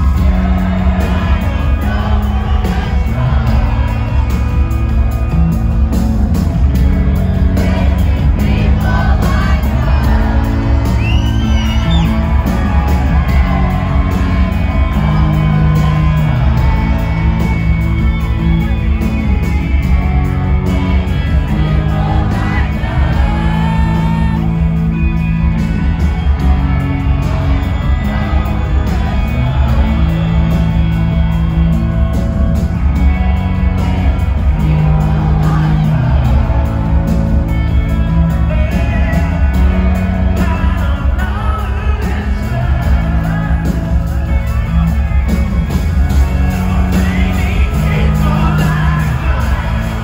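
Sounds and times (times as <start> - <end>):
lead vocals singing: 0.0 - 5.1, 6.9 - 19.0, 20.5 - 31.3, 34.0 - 44.8, 46.1 - 50.0
rock band playing live: 0.0 - 50.0.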